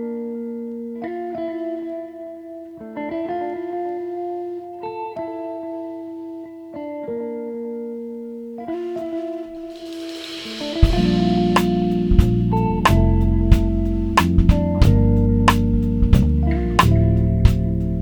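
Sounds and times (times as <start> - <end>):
guitar playing slow chords: 0.0 - 18.0.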